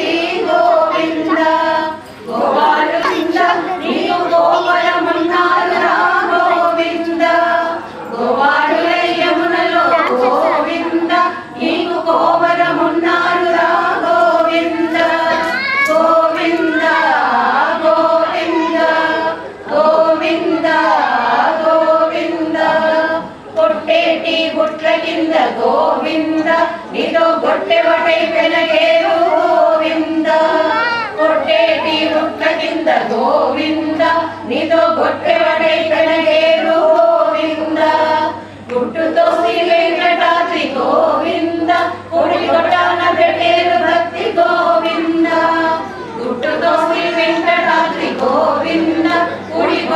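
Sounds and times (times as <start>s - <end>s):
group of women singing: 0.0s - 49.9s.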